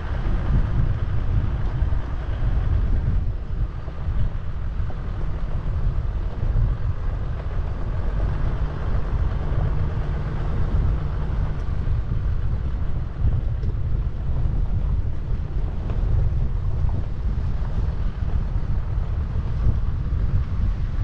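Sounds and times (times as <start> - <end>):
vehicle rumbling on the move: 0.0 - 21.0.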